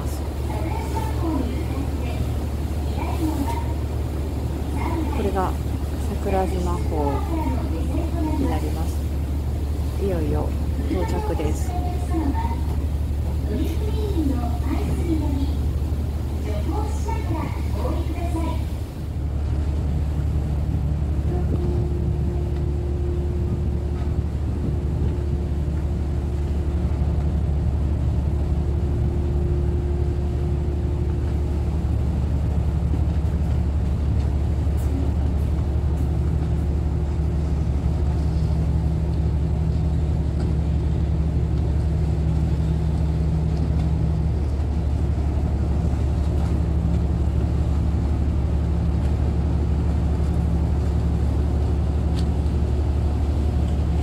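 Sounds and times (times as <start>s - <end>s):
ferry diesel engines droning: 0.0s - 54.0s
steady hums: 0.0s - 54.0s.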